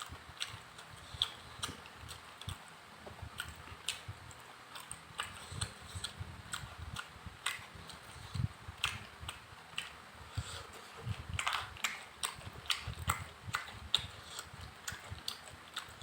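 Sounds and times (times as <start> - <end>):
person chewing with wet smacks: 0.0 - 16.0.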